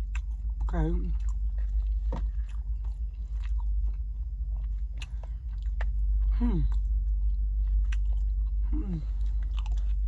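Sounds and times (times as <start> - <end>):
mouth chewing food: 0.0 - 10.0
steady low hum: 0.0 - 10.0.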